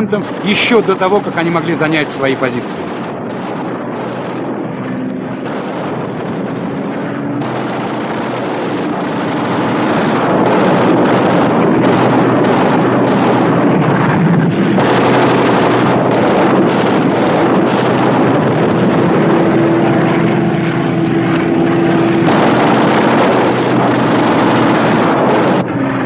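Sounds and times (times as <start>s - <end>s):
piston aircraft engine drone: 0.0s - 26.0s
rushing air: 0.0s - 26.0s.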